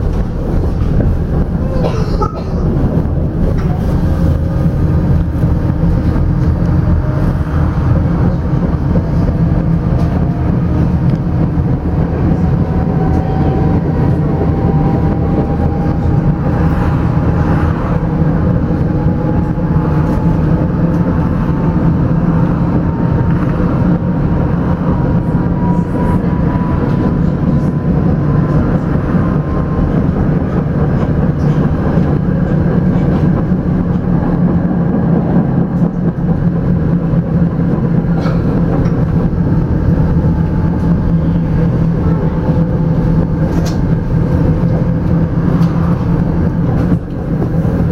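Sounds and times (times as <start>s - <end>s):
tram wheels rumbling: 0.0s - 47.9s.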